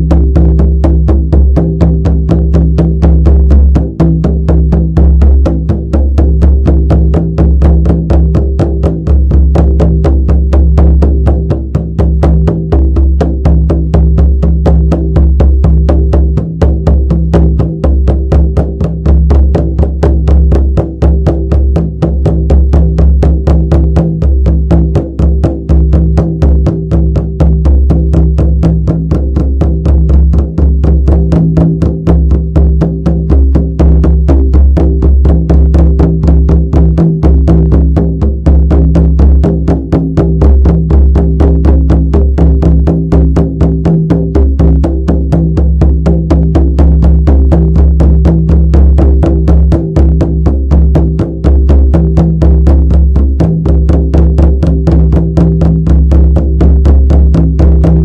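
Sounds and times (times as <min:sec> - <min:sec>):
frame drum beating: 0:00.0 - 0:58.0.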